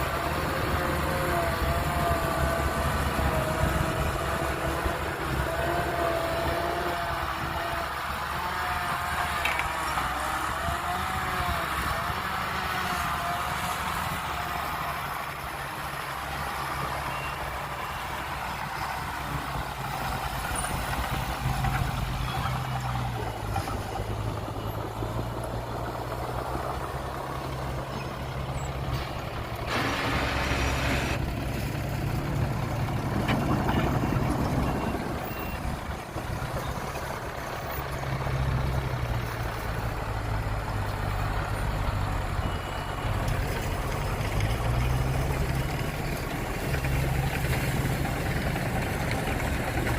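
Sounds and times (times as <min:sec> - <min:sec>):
heavy diesel engines under load: 0:00.0 - 0:49.9.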